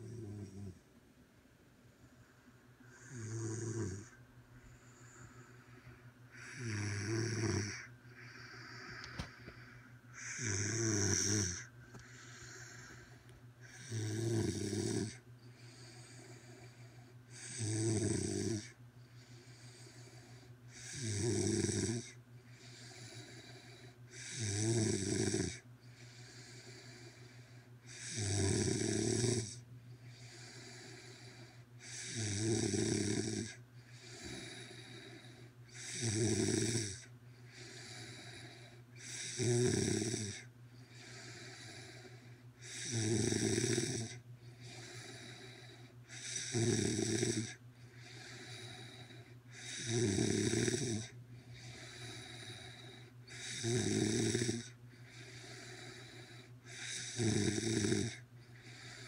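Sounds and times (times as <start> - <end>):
woman snoring loudly: 0.0 - 0.8, 2.9 - 4.2, 6.3 - 9.4, 10.2 - 13.0, 13.6 - 16.4, 17.3 - 18.8, 20.7 - 25.6, 27.9 - 29.6, 30.3 - 59.0
quiet breathing: 0.0 - 59.0.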